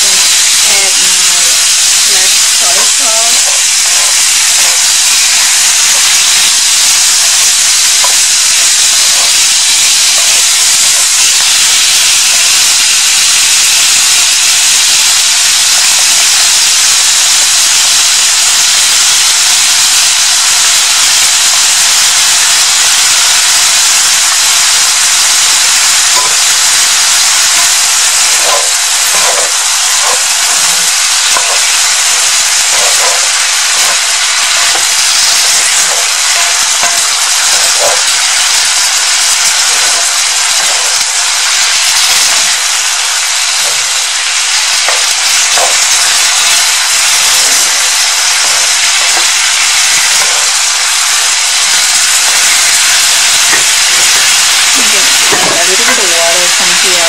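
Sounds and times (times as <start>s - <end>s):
chicken frying in oil: 0.0s - 57.0s.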